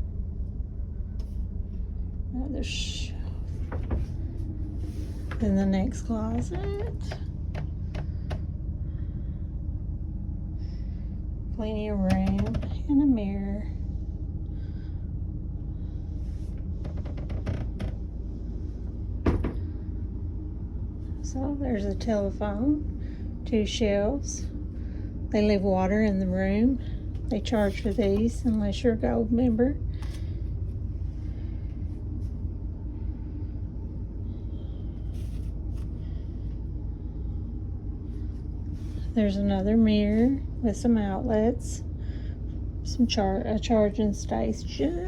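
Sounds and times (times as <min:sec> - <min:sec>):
ship machinery rumbling: 0:00.0 - 0:45.0
steady low hum: 0:00.0 - 0:45.0.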